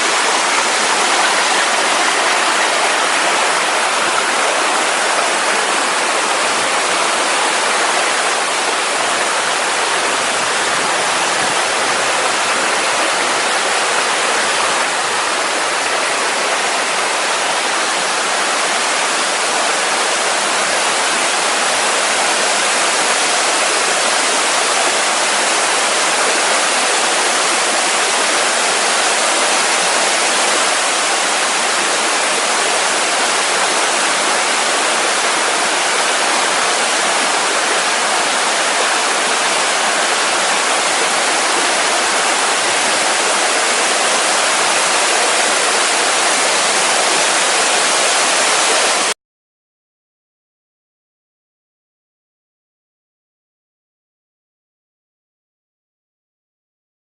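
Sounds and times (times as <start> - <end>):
waterfall rushing: 0.0 - 49.2.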